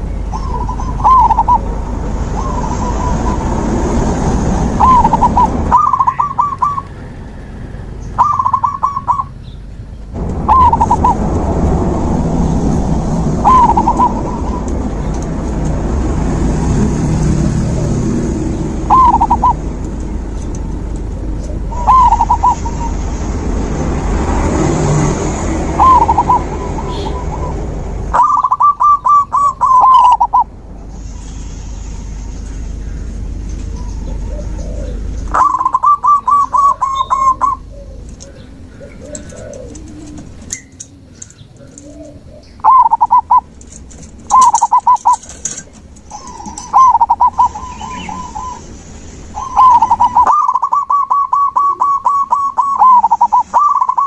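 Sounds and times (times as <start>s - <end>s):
doves cooing: 0.0s - 9.4s, 10.2s - 23.1s, 24.6s - 30.5s, 32.7s - 54.0s
steady hiss and low rumble: 0.0s - 53.8s.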